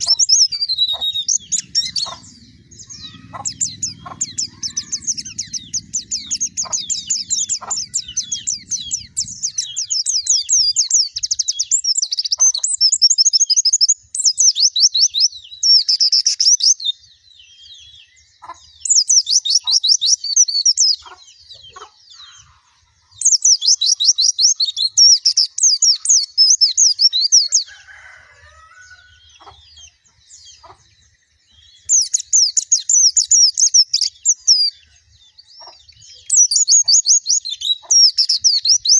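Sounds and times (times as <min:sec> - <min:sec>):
high-pitched bird twittering: 0:00.0 - 0:17.0, 0:17.6 - 0:30.8, 0:31.6 - 0:38.9.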